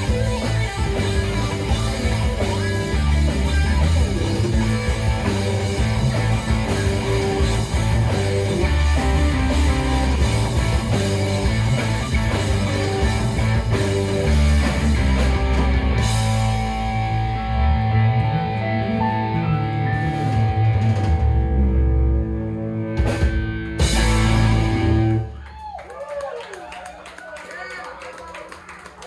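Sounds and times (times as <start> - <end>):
bass guitar low notes: 0.0 - 25.4
electric guitar: 0.0 - 25.5.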